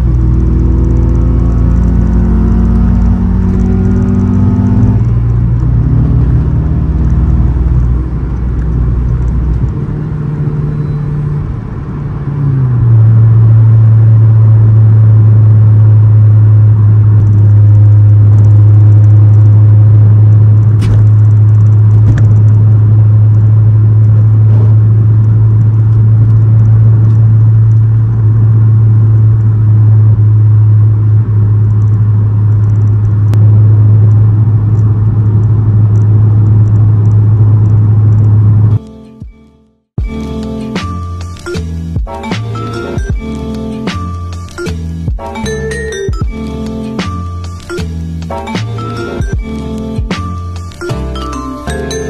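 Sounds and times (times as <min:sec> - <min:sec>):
car engine drone inside cabin: 0:00.0 - 0:52.0.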